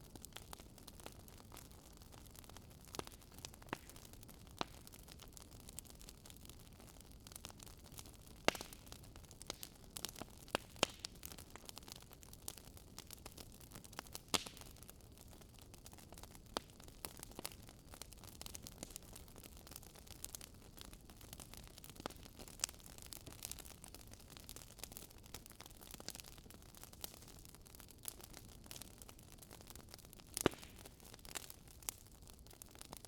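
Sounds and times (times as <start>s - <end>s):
firewood crackling and popping: 0.0s - 33.0s.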